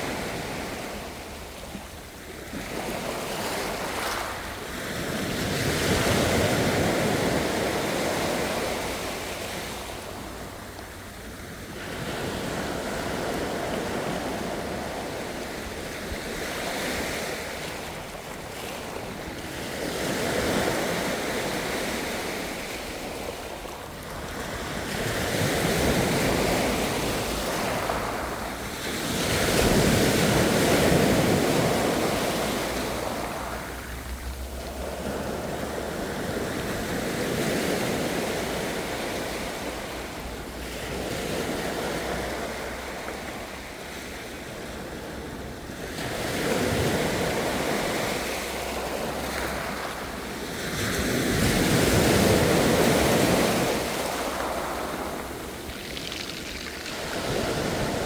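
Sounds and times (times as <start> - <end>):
ocean waves surging: 2.6 - 58.0.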